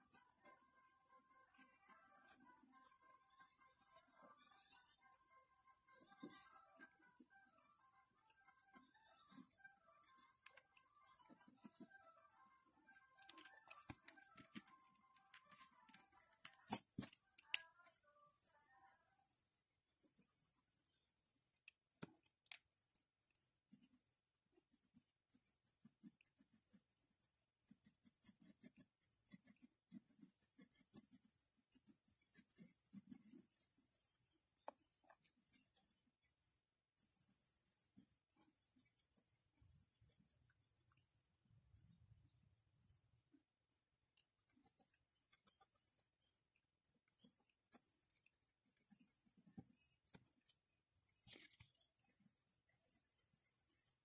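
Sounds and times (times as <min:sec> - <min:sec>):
pencil scratching on paper: 0:00.0 - 0:54.0.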